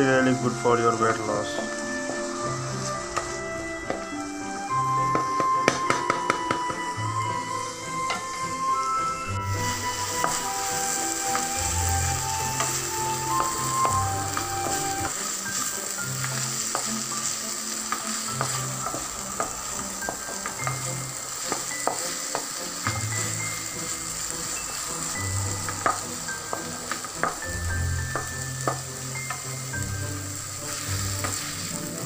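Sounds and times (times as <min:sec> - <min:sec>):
vegetables sizzling in hot oil: 0:00.0 - 0:32.0
wooden spatula scraping a pan: 0:00.9 - 0:04.1, 0:09.4 - 0:32.0.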